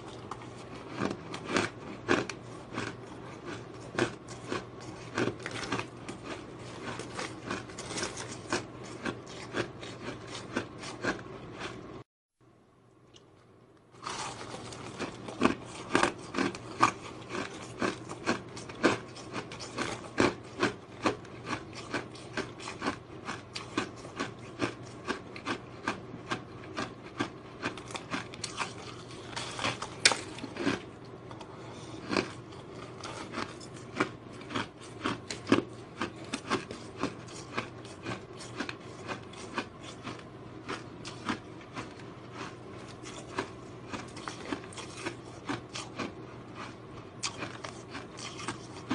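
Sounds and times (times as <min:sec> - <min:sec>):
chewing ice crunches: 0:00.0 - 0:11.9, 0:14.0 - 0:48.9.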